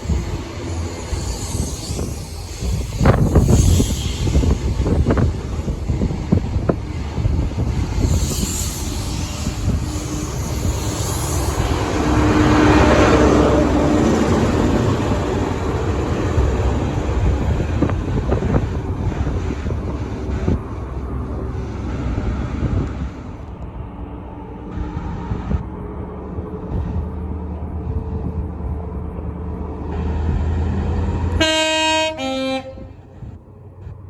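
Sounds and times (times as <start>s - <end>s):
wind buffeting the microphone: 0.0s - 29.6s
train rumbling past: 0.0s - 34.0s.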